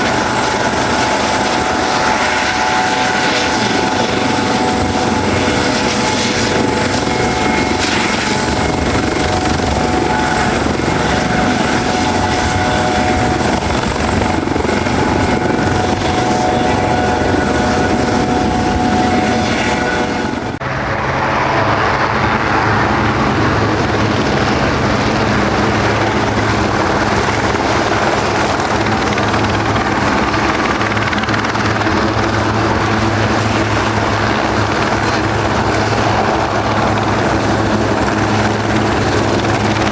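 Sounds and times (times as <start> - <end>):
helicopter drone and whine: 0.0 - 39.9.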